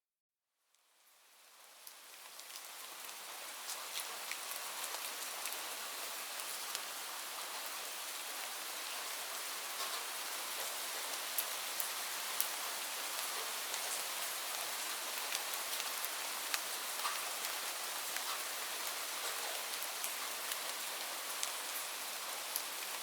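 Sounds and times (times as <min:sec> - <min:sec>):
steady rain hiss: 0:00.7 - 0:23.0.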